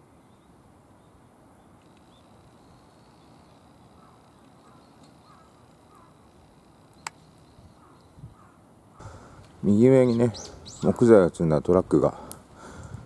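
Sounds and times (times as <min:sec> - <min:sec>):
faint distant bird calls: 0:00.0 - 0:13.0
quiet street ambience: 0:00.0 - 0:13.0.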